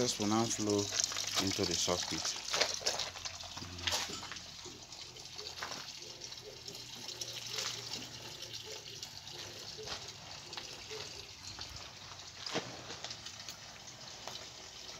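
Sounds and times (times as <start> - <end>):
water running: 0.0 - 14.9.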